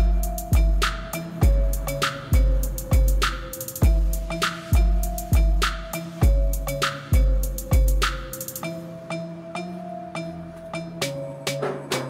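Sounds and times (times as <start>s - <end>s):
electronic music with a beat: 0.0s - 12.0s.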